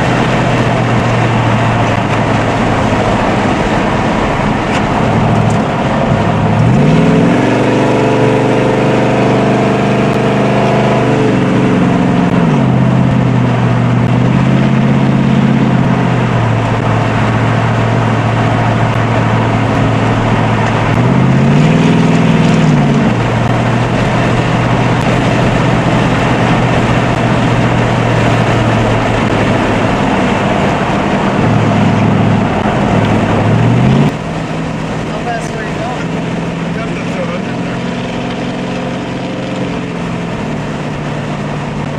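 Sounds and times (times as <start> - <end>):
car engine revving: 0.0 - 41.9
steady rushing noise: 0.0 - 41.9.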